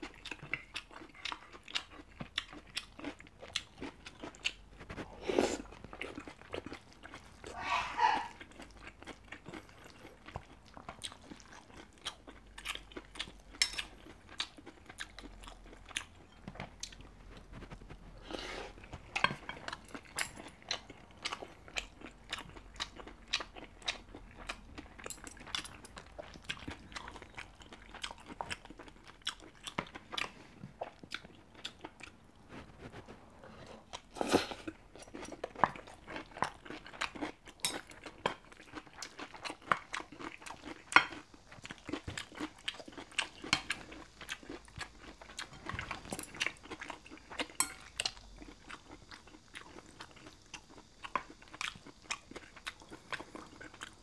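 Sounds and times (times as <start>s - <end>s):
chewing and mouth smacks: 8.2s - 18.2s, 18.8s - 33.1s, 33.9s - 54.0s.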